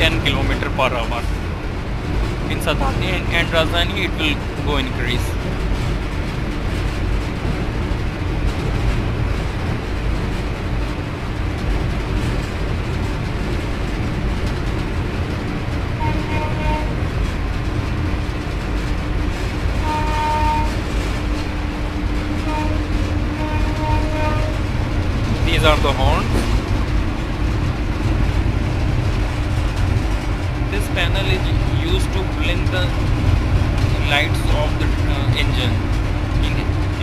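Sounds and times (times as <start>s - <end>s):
electric locomotive rumble: 0.0s - 37.0s.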